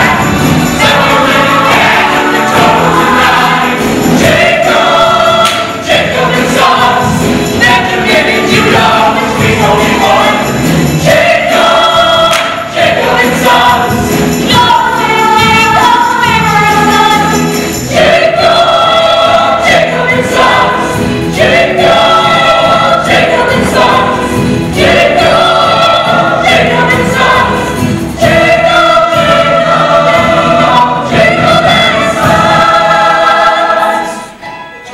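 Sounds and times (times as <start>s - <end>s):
chorus singing show tune: 0.0s - 34.9s
instrumental accompaniment: 0.0s - 34.9s.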